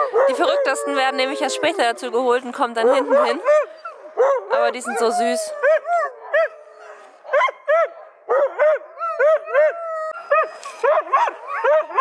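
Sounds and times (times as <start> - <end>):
dogs whining: 0.0 - 12.0
huskies yipping and barking: 0.0 - 12.0.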